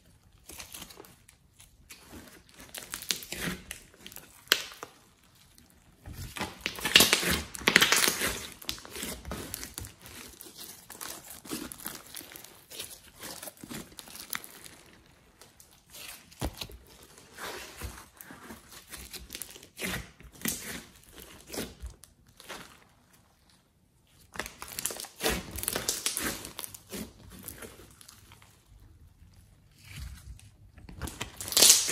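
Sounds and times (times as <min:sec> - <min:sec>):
slime squishing and crackling: 0:00.0 - 0:31.9.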